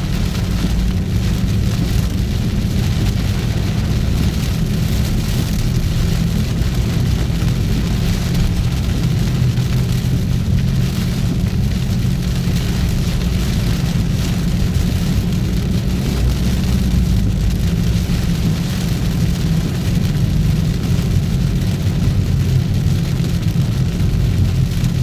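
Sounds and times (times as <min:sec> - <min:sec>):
road rumble of car: 0:00.0 - 0:25.0.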